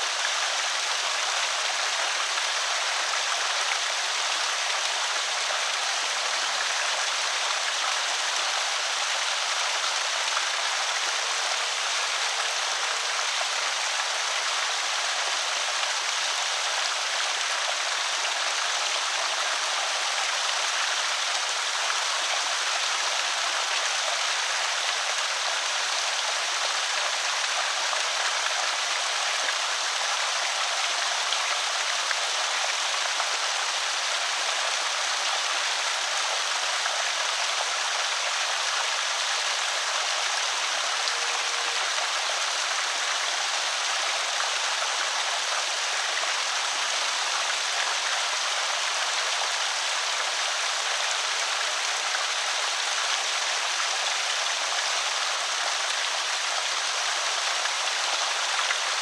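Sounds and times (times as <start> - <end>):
water pouring over spillway: 0.0 - 59.0.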